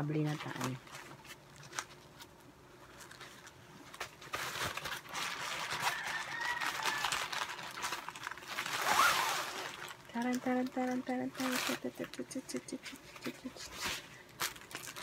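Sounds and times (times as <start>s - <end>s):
bag and plastic wrap rustling: 0.0s - 15.0s.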